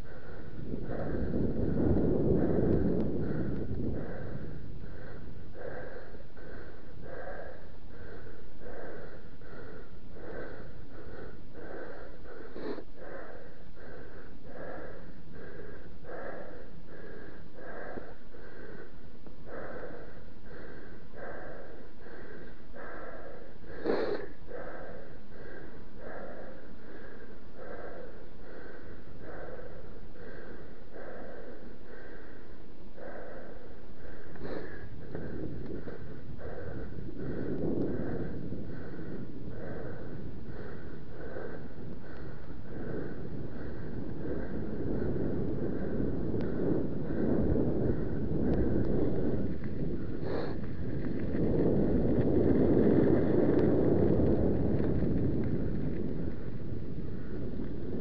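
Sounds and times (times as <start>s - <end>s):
person breathing hard: 0.0s - 58.0s.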